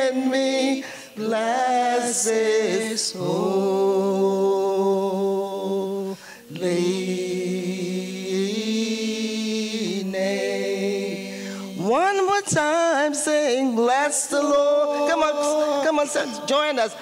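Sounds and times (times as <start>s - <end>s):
women singing a cappella: 0.0s - 17.0s.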